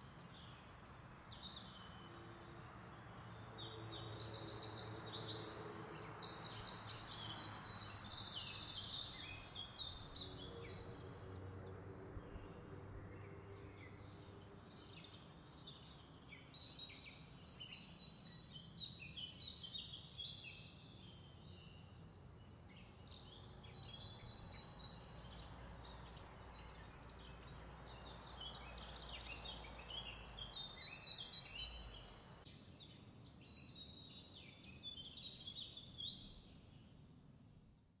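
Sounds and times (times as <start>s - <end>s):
birds singing and chirping: 3.1s - 37.4s.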